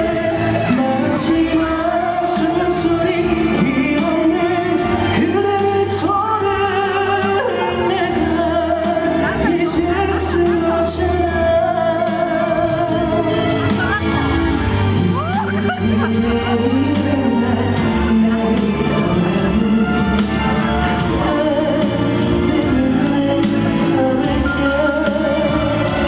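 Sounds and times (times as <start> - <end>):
band accompaniment: 0.0 - 26.0
person singing live: 0.0 - 26.0.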